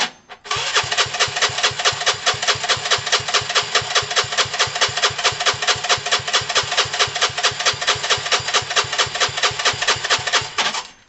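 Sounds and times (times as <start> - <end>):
motorcycle engine cranking: 0.0 - 11.0.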